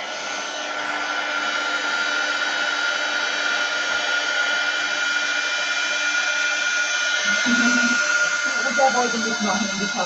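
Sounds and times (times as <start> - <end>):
heat tool fan whirring: 0.0 - 10.0.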